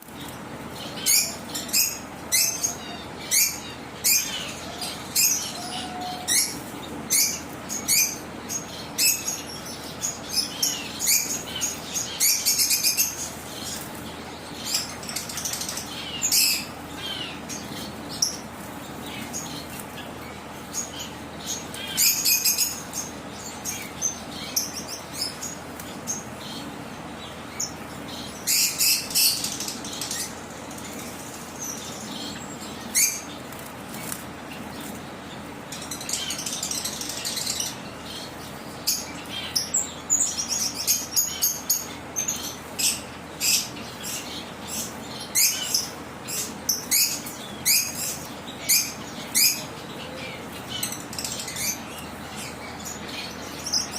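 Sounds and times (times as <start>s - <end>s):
low background hum: 0.0s - 53.9s.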